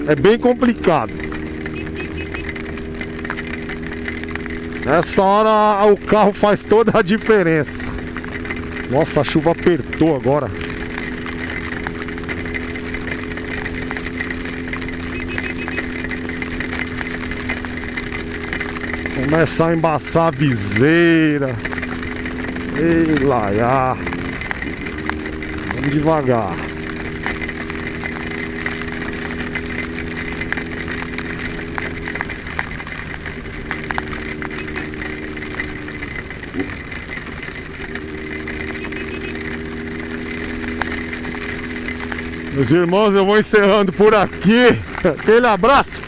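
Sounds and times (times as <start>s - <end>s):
heavy rain and road spray: 0.0s - 46.0s
motorcycle engine running: 0.0s - 46.0s
sharp ticks: 0.0s - 46.0s.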